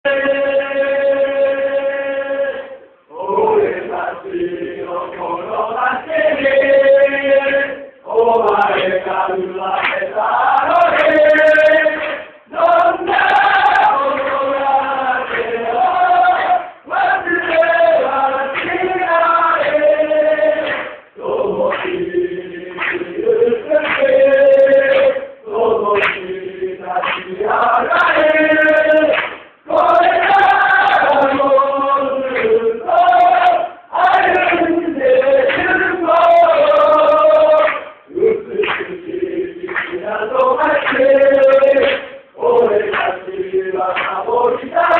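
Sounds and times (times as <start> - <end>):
group of people singing in unison: 0.0 - 44.9
many voices chanting: 0.0 - 44.9.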